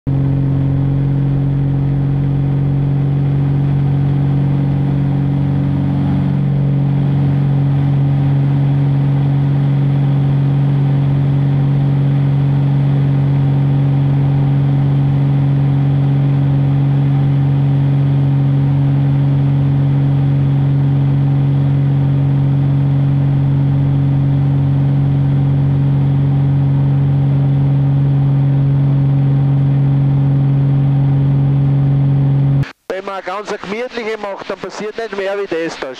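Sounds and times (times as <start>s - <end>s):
propeller plane engine droning: 0.1s - 32.7s.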